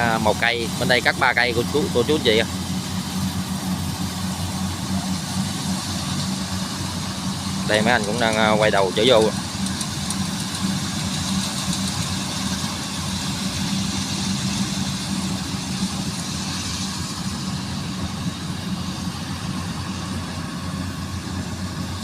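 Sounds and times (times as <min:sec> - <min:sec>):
combine harvester engine humming: 0:00.0 - 0:22.0.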